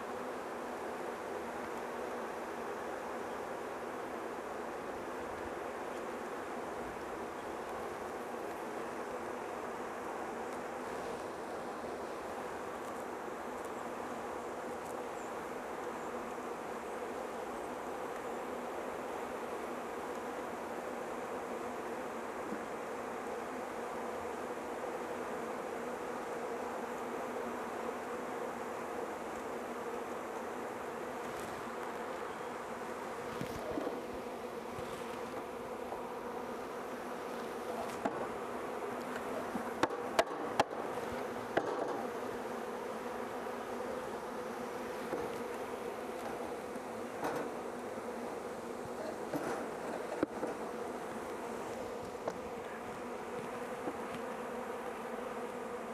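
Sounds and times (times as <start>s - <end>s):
honeybees buzzing: 0.0s - 55.9s.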